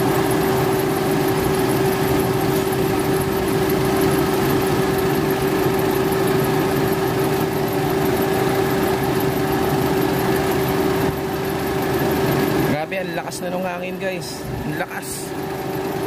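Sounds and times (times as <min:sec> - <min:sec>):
car engine idling: 0:00.0 - 0:16.0
electric fan running: 0:00.0 - 0:16.0.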